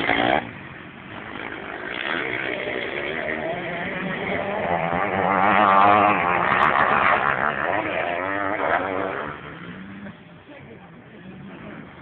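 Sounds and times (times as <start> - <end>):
motocross engines revving: 0.0 - 12.0.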